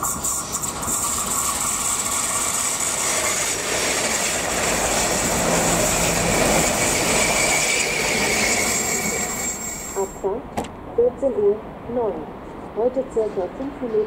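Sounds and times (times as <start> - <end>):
faint high whine: 0.0 - 11.6
train passing at speed: 0.0 - 14.0.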